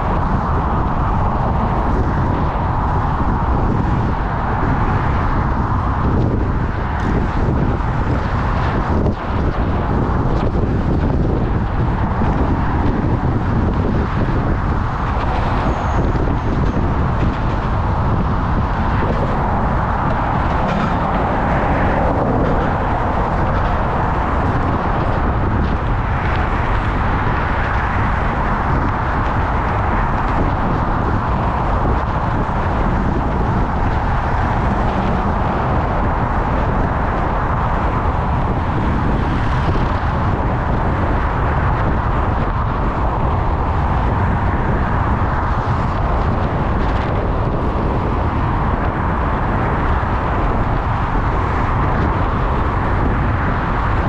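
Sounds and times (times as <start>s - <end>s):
road traffic noise: 0.0s - 54.0s
wind rumble on microphone: 0.0s - 54.0s.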